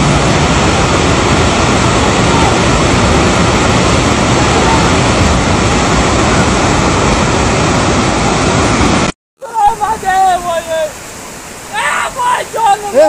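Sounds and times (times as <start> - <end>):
floodwater rushing under bridge: 0.0 - 13.0.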